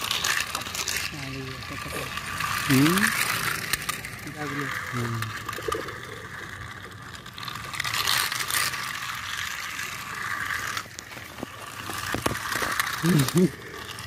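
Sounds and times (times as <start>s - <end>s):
toy car clicks: 0.0s - 14.0s
toy car motor whirring: 0.0s - 14.0s.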